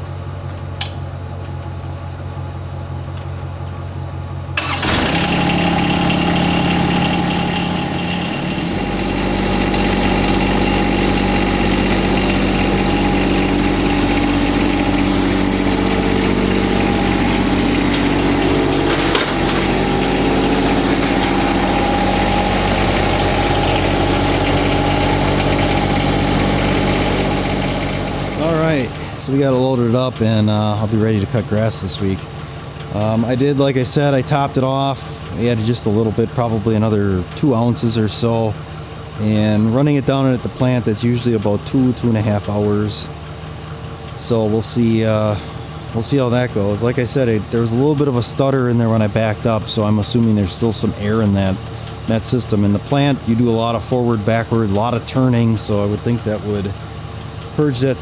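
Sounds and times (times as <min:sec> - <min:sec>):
lawn tractor diesel engine: 0:00.0 - 0:58.0.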